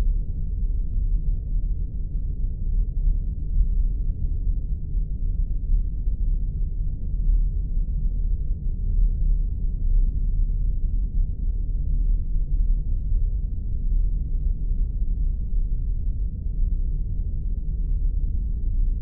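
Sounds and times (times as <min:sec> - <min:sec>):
deep spaceship rumble: 0:00.0 - 0:19.0.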